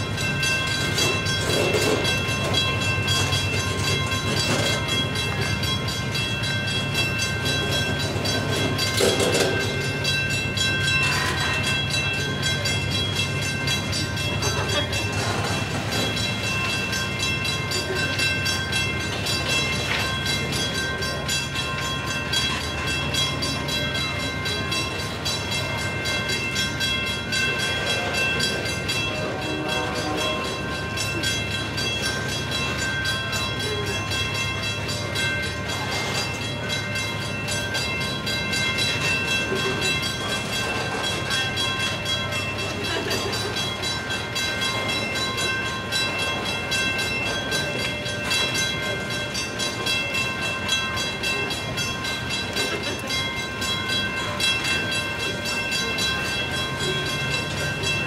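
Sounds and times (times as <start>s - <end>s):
high-pitched wheel ringing: 0.0s - 58.0s
railcar clanks and knocks: 0.0s - 58.0s
steel wheels rumbling on rail: 0.0s - 58.0s.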